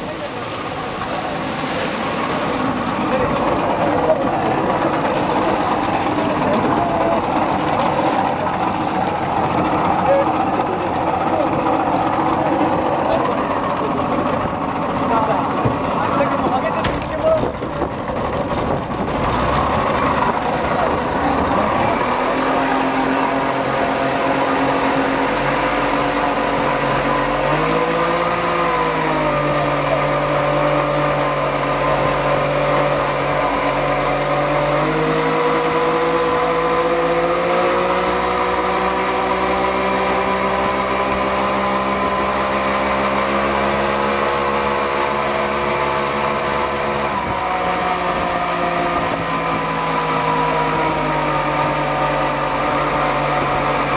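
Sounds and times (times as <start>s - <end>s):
outboard motor running: 0.0s - 53.9s
water and wind rushing: 0.0s - 53.9s.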